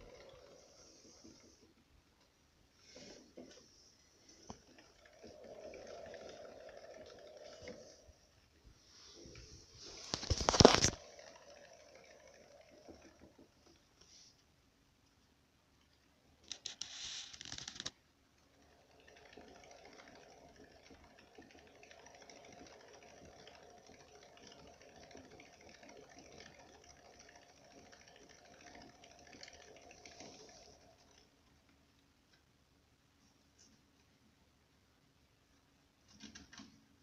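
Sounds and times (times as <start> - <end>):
hamster paws tapping on wheel: 0.0 - 8.2, 9.4 - 14.3, 15.8 - 32.5.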